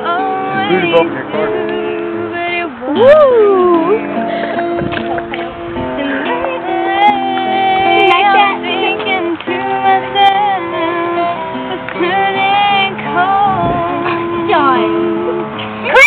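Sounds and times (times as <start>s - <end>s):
acoustic guitar chords: 0.0s - 16.0s
woman singing: 0.0s - 16.0s.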